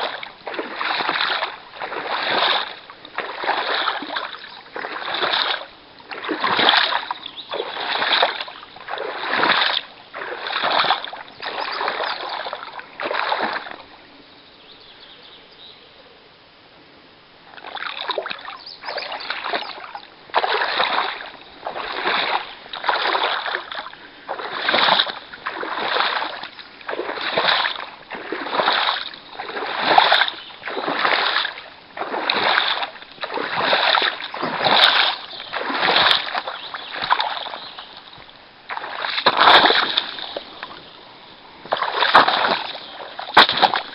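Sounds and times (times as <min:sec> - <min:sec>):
splashing strokes through water: 0:00.0 - 0:13.9, 0:17.5 - 0:43.9.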